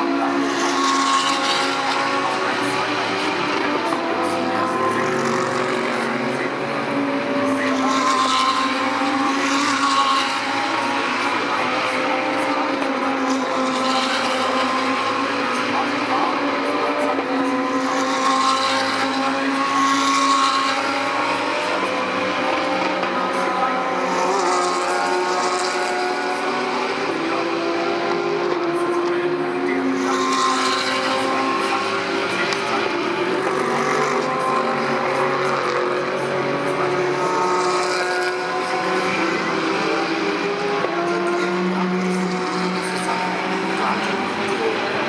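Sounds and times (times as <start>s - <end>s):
race car engine high revs: 0.0s - 45.0s.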